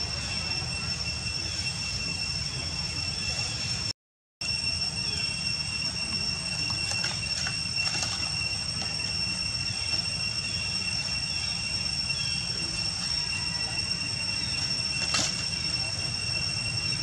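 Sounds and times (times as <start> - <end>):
high-pitched whine: 0.0 - 17.0.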